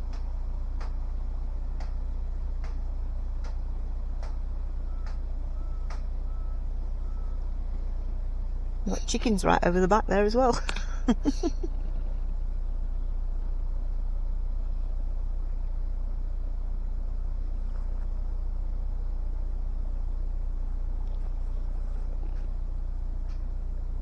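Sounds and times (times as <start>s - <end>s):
diesel boat engine droning: 0.0s - 24.0s.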